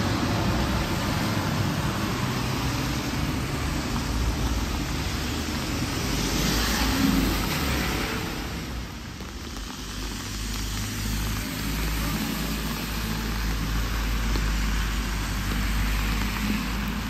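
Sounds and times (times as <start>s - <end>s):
moving vehicle rumble and hiss: 0.0s - 17.0s.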